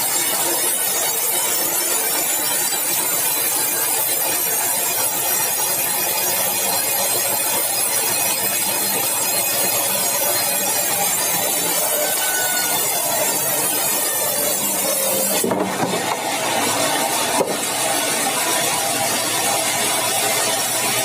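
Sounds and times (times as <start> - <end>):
sawmill saw running: 0.0 - 21.0.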